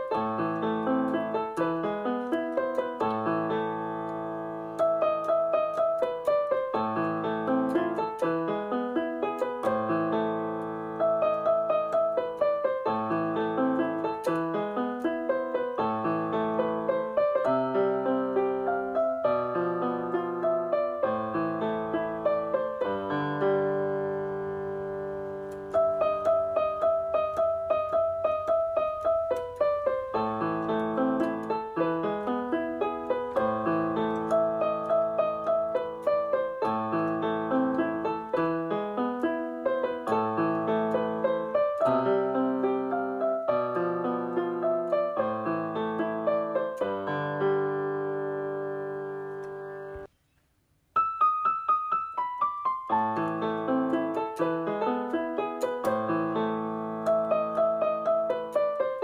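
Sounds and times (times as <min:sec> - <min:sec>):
piano music: 0:00.0 - 0:50.1, 0:51.0 - 0:59.0.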